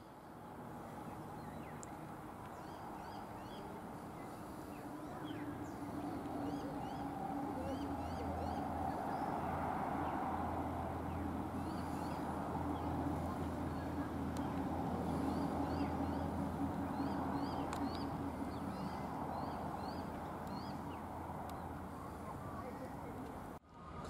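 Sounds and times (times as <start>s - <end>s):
birds chirping: 0.0s - 23.6s
low engine rumble: 0.0s - 24.0s.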